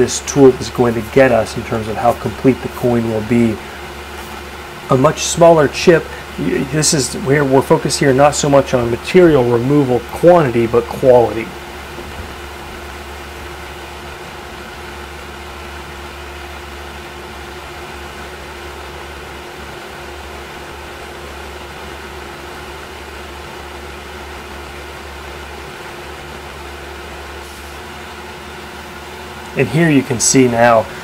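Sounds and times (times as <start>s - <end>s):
milling machine hum: 0.0s - 31.0s.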